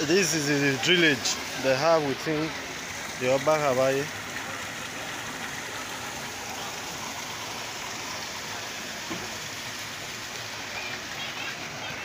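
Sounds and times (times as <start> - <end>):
water rushing into drain: 0.0 - 12.0.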